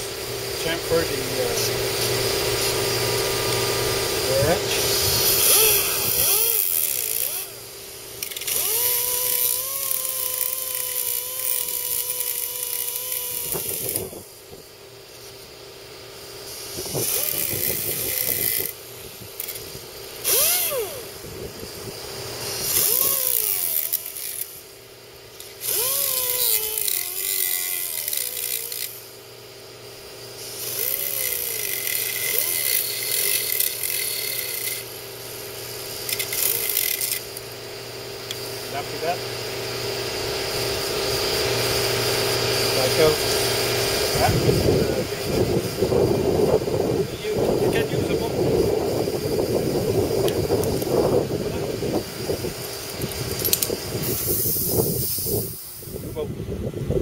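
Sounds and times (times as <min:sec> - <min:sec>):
air grinder whining: 0:00.0 - 0:57.0.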